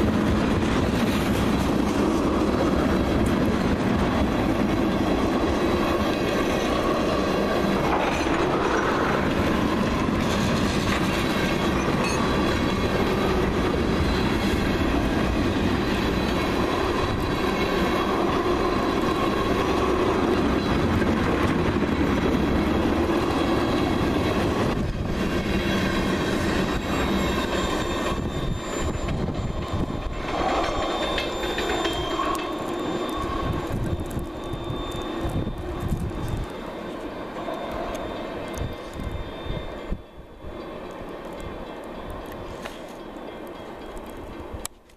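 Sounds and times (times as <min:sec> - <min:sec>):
train wheels clicking over rails: 0:00.0 - 0:39.3
faint high wheel squeal: 0:04.9 - 0:21.0, 0:22.9 - 0:44.6.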